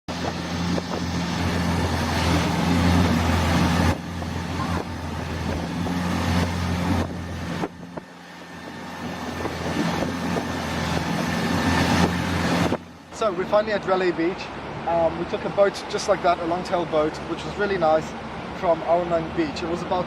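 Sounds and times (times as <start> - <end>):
boat engine droning: 0.1 - 20.0.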